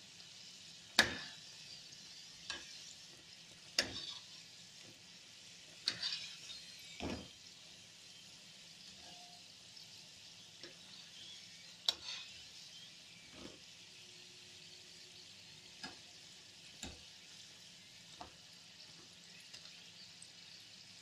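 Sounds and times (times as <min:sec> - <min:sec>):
deep-frying sizzle: 0:00.0 - 0:21.0.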